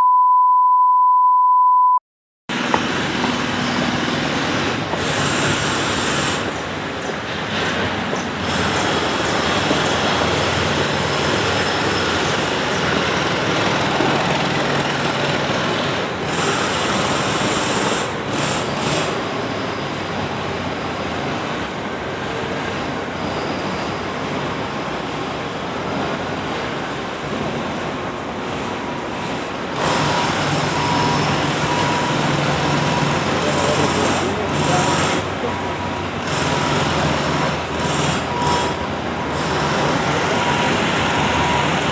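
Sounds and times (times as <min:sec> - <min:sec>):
construction machinery rumbling: 0:02.5 - 0:41.9.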